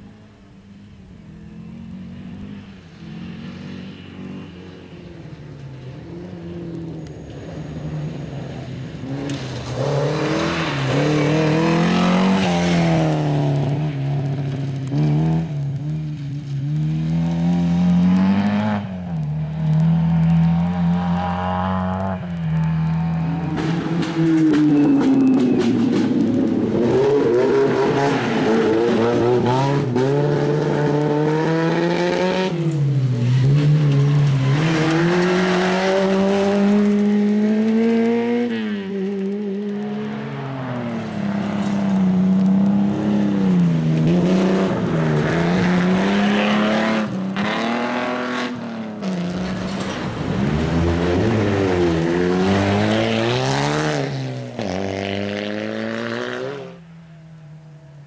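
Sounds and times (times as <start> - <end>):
rally car engine revving: 1.4 - 56.9.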